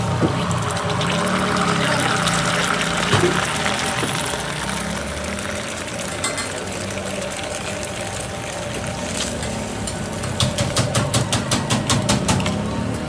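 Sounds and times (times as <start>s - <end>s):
egg sizzling on a griddle: 0.0s - 12.2s.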